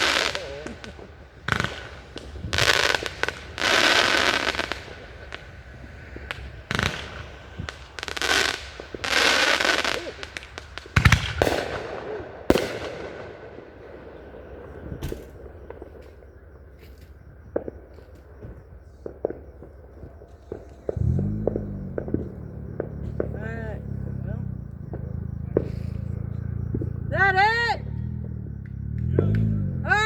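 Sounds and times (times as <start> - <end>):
firework bangs: 0.0 - 30.0
fireworks crackling bursts: 0.0 - 30.0.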